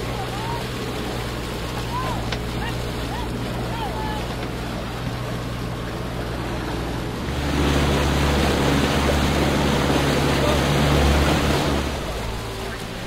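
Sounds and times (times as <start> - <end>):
motorboat engine drone: 0.0 - 13.0
water noise: 0.0 - 13.0
wind: 0.0 - 13.0.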